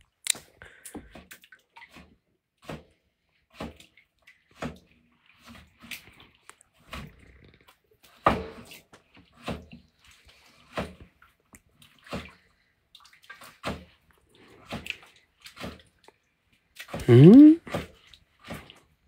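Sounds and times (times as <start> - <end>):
water sloshing in a basin: 1.0 - 17.1, 17.7 - 19.0.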